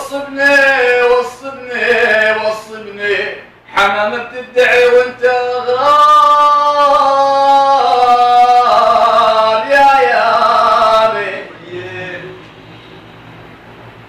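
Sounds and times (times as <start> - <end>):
man singing unaccompanied: 0.0 - 12.5.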